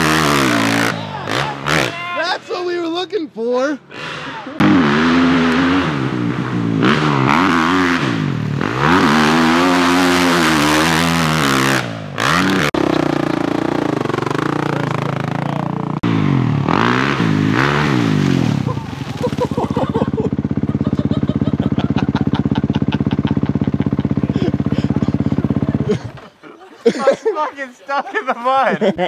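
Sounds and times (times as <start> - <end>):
dirt bike engine revving: 0.0 - 2.9, 3.8 - 26.4.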